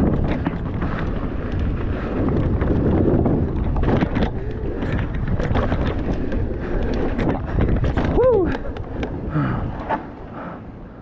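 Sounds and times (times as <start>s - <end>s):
tyres rolling on dirt: 0.0s - 10.3s
bike clicks and rattles: 0.0s - 10.8s
wind buffeting microphone: 0.0s - 11.0s.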